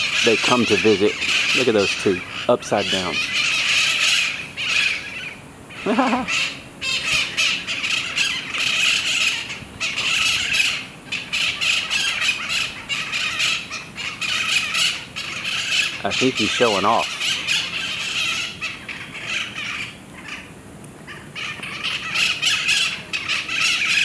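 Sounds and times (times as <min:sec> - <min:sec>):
parakeets squawking: 0:00.0 - 0:24.0.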